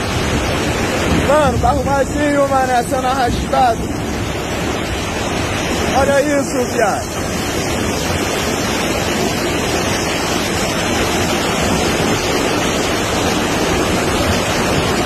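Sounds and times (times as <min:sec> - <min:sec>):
floodwater rushing down street: 0:00.0 - 0:15.0.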